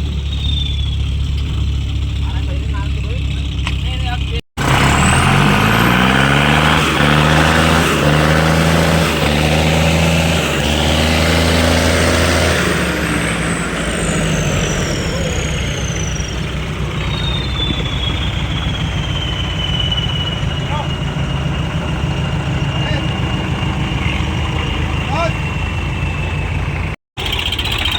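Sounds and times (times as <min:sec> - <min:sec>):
diesel tractor engine: 0:00.0 - 0:27.9.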